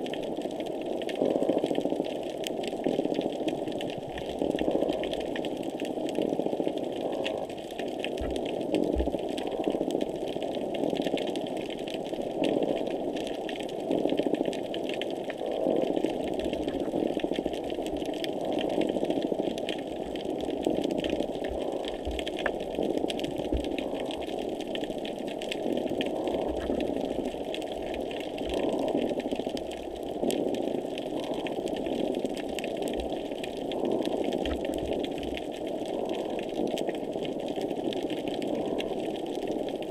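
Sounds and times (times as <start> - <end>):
crackling clicks: 0.0 - 39.9
underwater rushing hum: 0.4 - 39.9.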